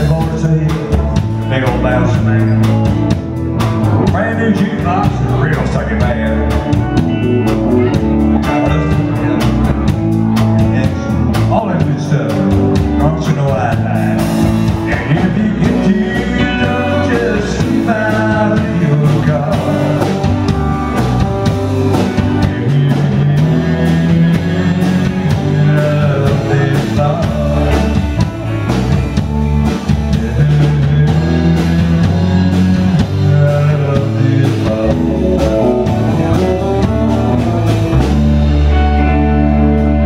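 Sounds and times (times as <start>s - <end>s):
rock band playing: 0.0s - 40.0s.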